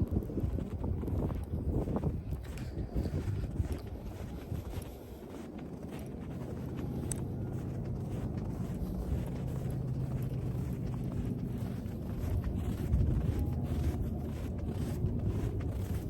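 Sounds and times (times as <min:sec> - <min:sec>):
wind on microphone: 0:00.0 - 0:16.0
vehicle engine hum: 0:02.5 - 0:16.0.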